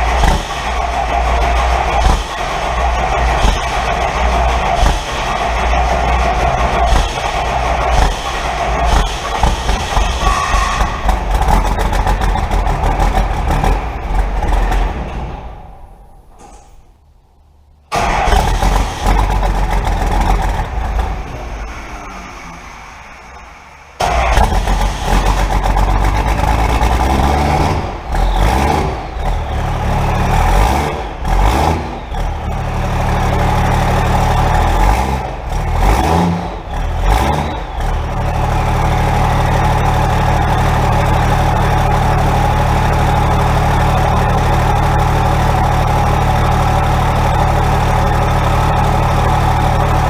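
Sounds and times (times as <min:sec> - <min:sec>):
diesel engine revving and idling: 0:00.0 - 0:16.5, 0:17.9 - 0:50.0.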